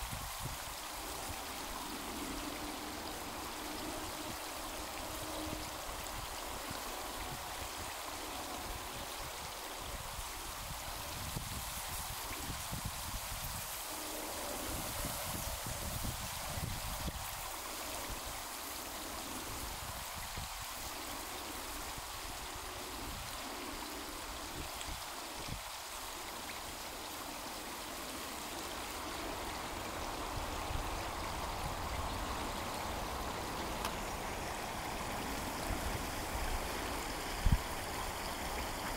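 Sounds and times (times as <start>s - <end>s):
water trickling through a dam: 0.0s - 38.9s.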